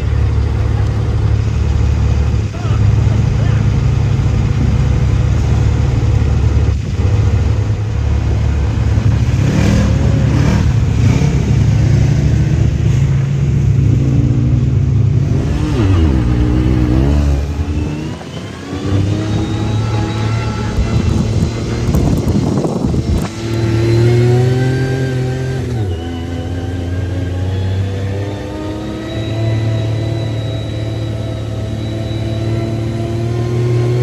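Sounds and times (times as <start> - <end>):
utility vehicle engine revving: 0.0 - 34.0.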